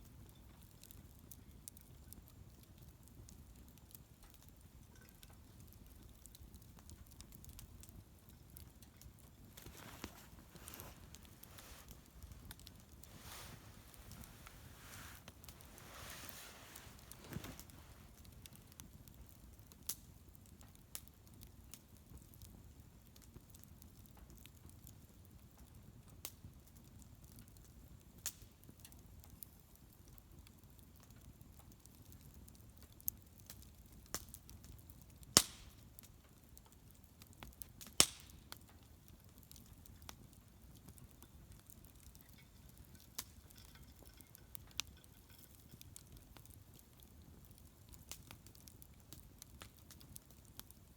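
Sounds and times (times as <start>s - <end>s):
bonfire crackling: 0.0s - 50.9s.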